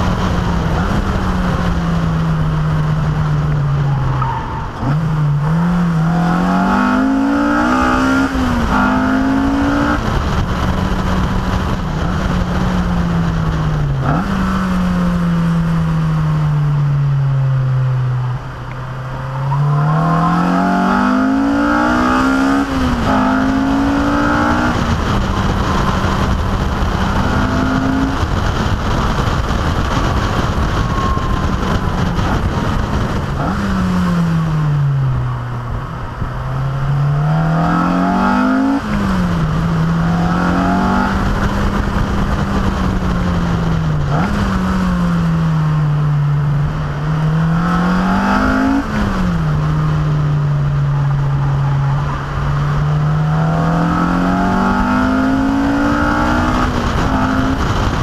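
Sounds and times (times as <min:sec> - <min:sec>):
car engine revving through gears: 0:00.0 - 0:16.5, 0:17.7 - 0:35.4, 0:36.1 - 0:45.8, 0:46.6 - 0:58.0
wind and road noise: 0:00.0 - 0:58.0.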